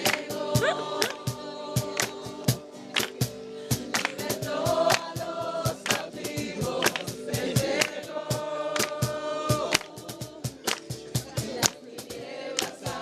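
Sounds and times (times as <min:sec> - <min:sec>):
sharp percussive hits: 0:00.0 - 0:11.9
group of voices singing: 0:00.0 - 0:13.0.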